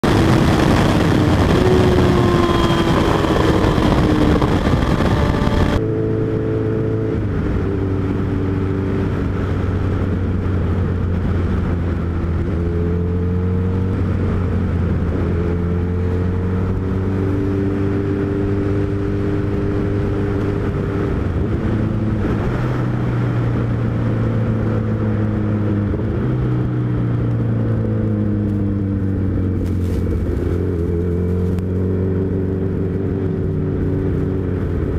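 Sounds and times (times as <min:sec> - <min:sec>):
heavy wind noise: 0:00.0 - 0:34.9
motorcycle engine running: 0:00.0 - 0:34.9.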